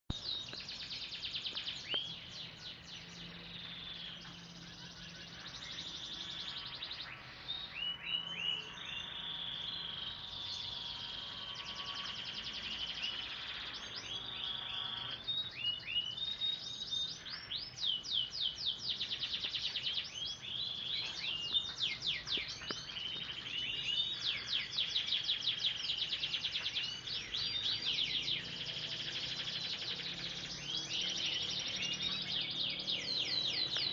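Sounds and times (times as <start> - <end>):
songbird chirps and trills: 0.1 - 33.9.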